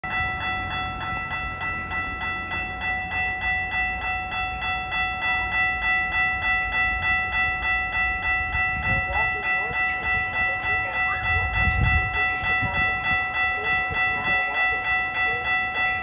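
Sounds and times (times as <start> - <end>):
crossing warning bell ringing: 0.0 - 16.0.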